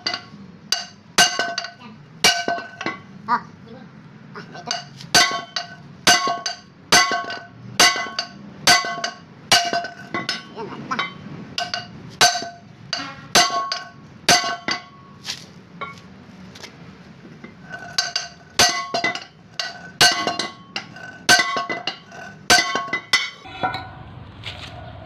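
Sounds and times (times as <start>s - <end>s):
hammer striking steel: 0.0s - 3.0s, 4.7s - 15.1s, 17.4s - 24.0s.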